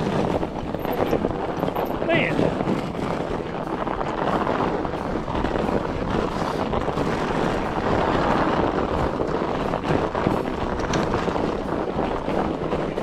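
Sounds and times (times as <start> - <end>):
bike tyres rolling on snow: 0.0 - 13.0
wind on microphone: 0.0 - 13.0.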